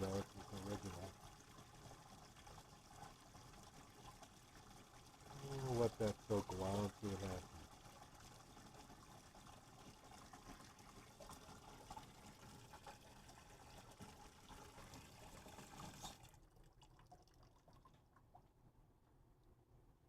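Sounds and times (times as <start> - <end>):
water trickling into sink: 0.0 - 18.5.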